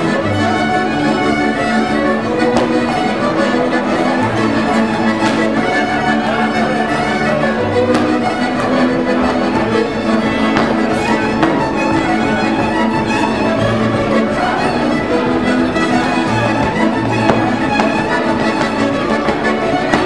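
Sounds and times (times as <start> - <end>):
double bass: 0.0 - 20.0
fiddles bowing a melody: 0.0 - 20.0.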